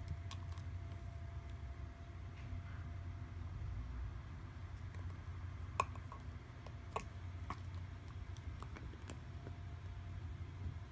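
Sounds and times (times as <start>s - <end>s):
low steady rumble: 0.0s - 10.9s.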